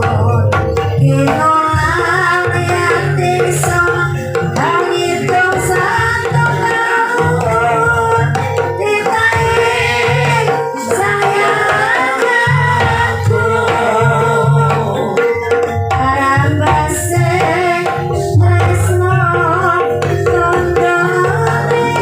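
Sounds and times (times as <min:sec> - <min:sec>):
gamelan tones: 0:00.0 - 0:22.0
hand drum pattern: 0:00.0 - 0:22.0
person singing: 0:00.0 - 0:22.0.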